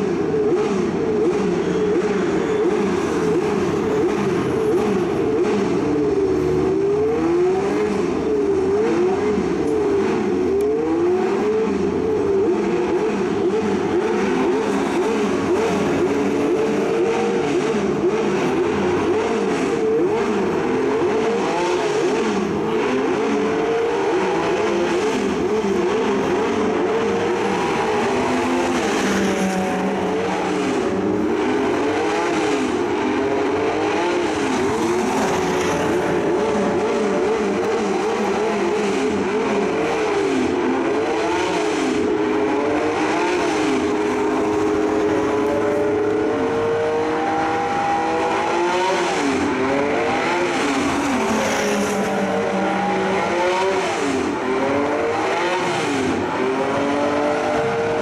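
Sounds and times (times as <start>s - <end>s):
car engines accelerating: 0.0s - 58.0s.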